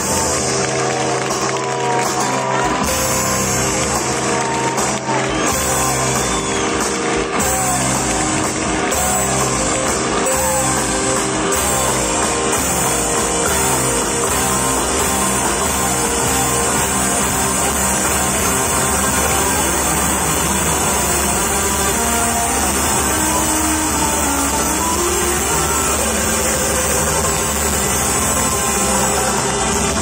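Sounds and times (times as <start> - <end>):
live rock band with guitars: 0.0 - 30.0.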